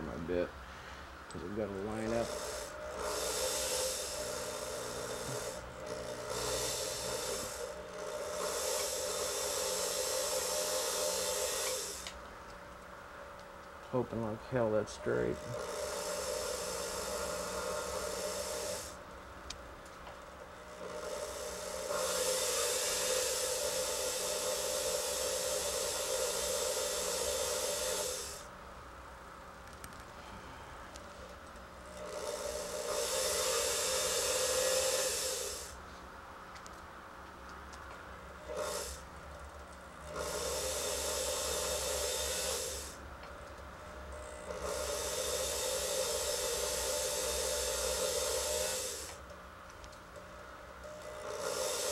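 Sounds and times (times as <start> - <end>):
small drill humming: 0.0 - 12.3, 14.6 - 19.1, 19.8 - 28.6, 29.8 - 35.8, 38.4 - 51.9.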